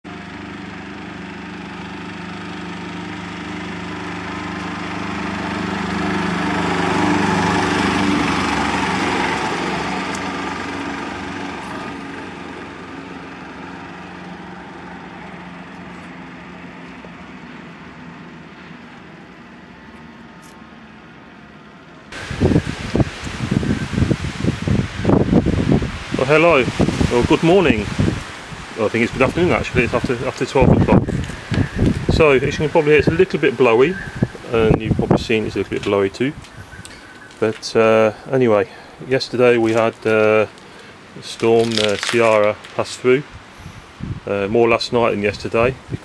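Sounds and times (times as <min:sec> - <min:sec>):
small vehicle engine passing: 0:00.1 - 0:44.0.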